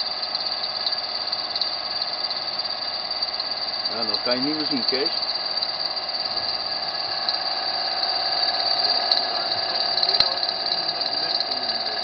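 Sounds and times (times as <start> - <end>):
engine running: 0.0 - 12.0
high-pitched whine: 0.0 - 12.0.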